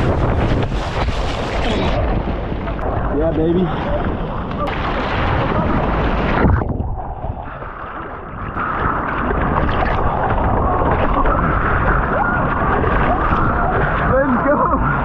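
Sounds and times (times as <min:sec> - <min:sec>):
wind buffeting microphone: 0:00.0 - 0:07.7, 0:08.3 - 0:15.0
ocean surf rushing: 0:00.0 - 0:15.0.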